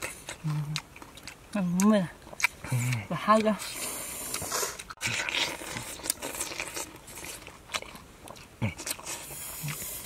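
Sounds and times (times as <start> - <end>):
person chewing juicy fruit: 0.0 - 10.0.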